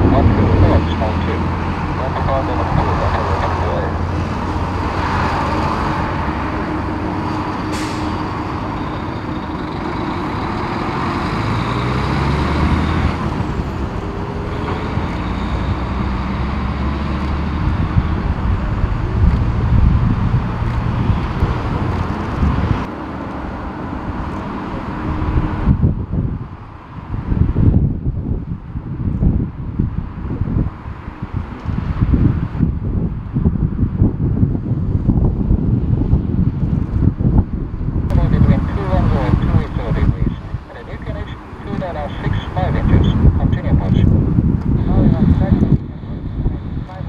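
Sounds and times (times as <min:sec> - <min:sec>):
wind buffeting microphone: 0:00.0 - 0:22.9, 0:23.9 - 0:47.0
jet engines rumbling with whine: 0:00.0 - 0:47.0.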